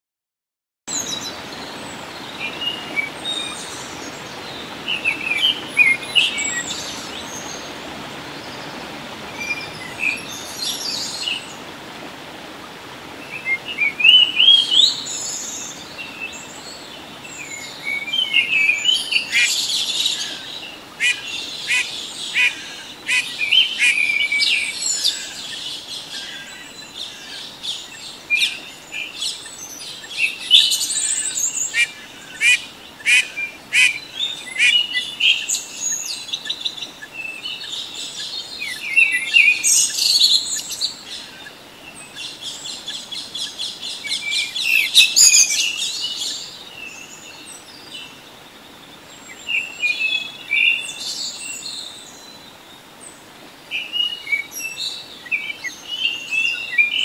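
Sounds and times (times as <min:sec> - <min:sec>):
songbirds chirping and trilling: 0:00.9 - 0:11.8, 0:12.9 - 0:57.0.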